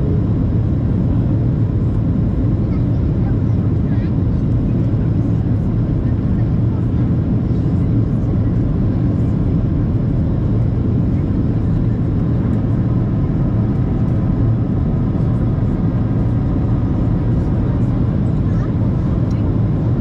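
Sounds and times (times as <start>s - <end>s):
airplane cabin engine rush: 0.0s - 20.0s.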